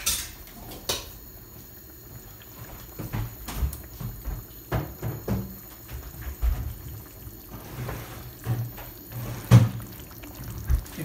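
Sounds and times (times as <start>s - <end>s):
stew bubbling in a pan: 0.0s - 11.0s.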